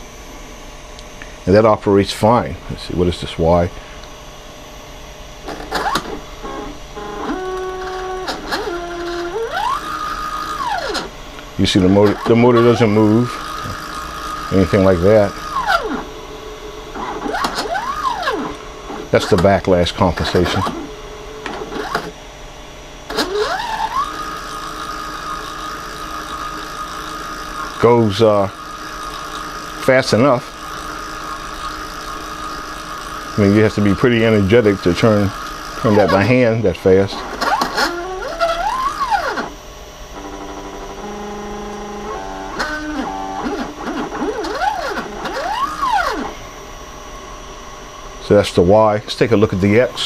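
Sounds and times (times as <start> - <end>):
stepper motor whining: 5.4 - 46.6.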